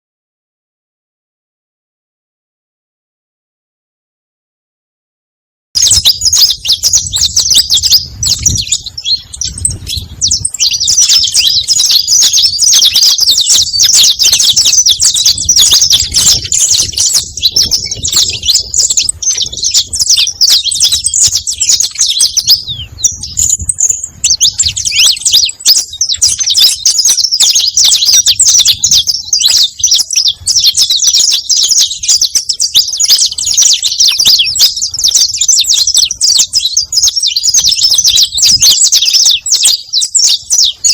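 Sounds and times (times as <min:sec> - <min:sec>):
finch chirps and trills: 0:05.8 - 0:40.9.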